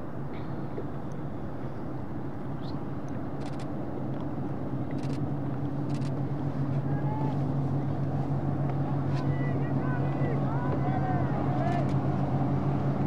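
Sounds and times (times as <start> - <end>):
motorboat engines droning: 0.0 - 13.0
water and wind noise: 0.0 - 13.0.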